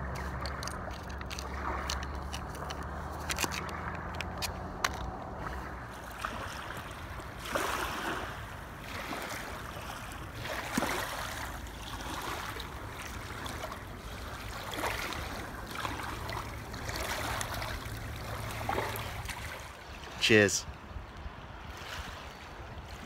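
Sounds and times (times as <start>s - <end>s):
small waves lapping on pebbles: 0.0s - 20.3s, 20.9s - 23.0s.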